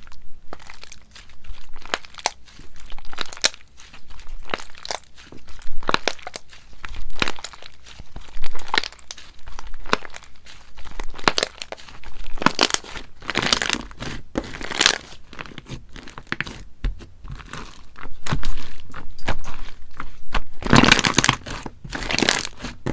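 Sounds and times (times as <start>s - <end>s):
slime squishing and crackling: 0.0s - 22.9s.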